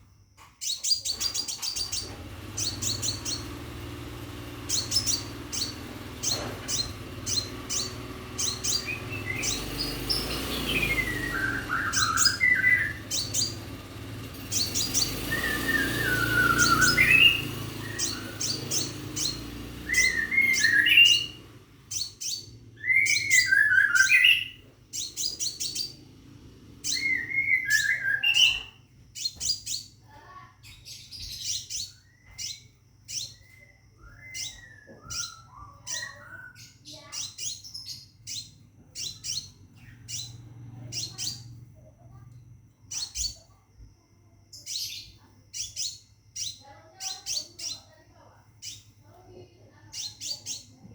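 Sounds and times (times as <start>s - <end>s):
bird singing: 0.0s - 43.8s, 44.4s - 50.9s.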